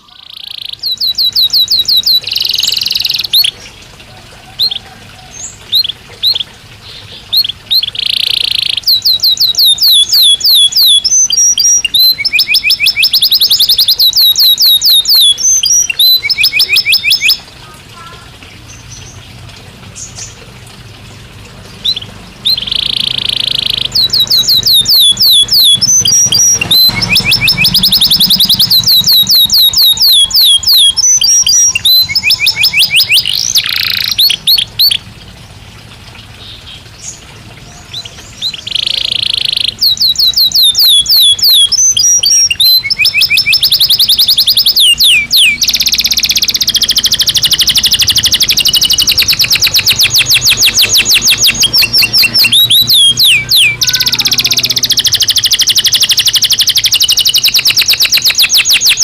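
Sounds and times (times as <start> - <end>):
canary singing trills: 0.0 - 21.0, 21.6 - 35.6, 36.4 - 59.0.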